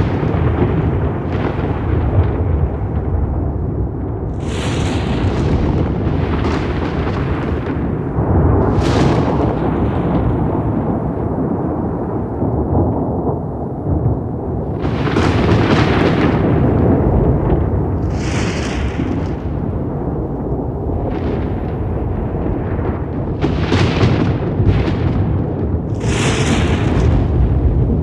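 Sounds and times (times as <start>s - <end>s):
rolling thunder rumble: 0.0s - 28.0s
thunder crackling cracks: 0.0s - 28.0s.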